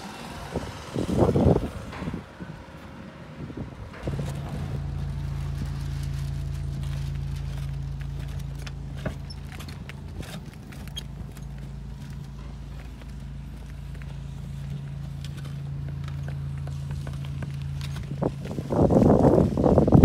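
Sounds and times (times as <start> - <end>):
low engine hum: 0.0 - 20.0
footsteps on clay roof tiles: 0.8 - 20.0.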